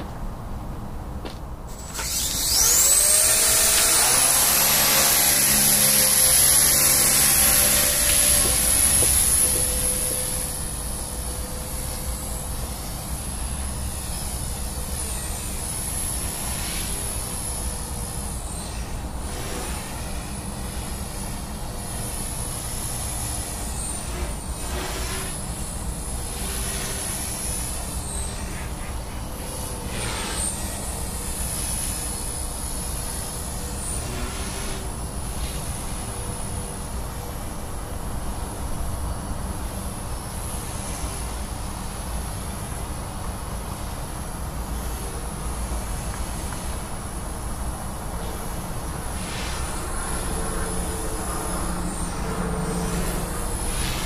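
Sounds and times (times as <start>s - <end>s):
rotor hum: 0.0s - 54.0s
rc helicopter motor whine: 1.7s - 54.0s.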